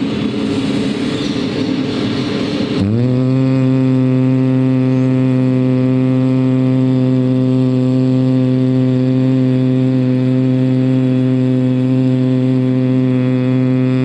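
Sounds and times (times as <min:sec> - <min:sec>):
man humming a low note: 0:02.7 - 0:14.0.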